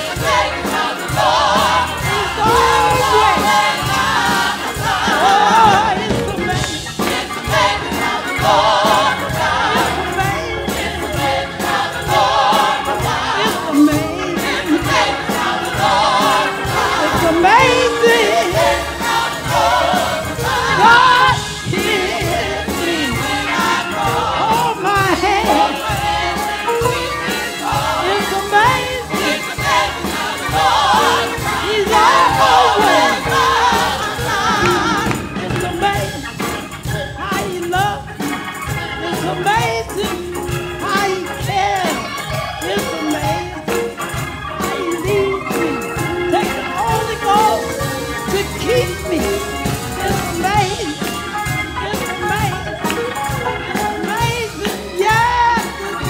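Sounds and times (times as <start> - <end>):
congregation singing along: 0.0 - 56.0.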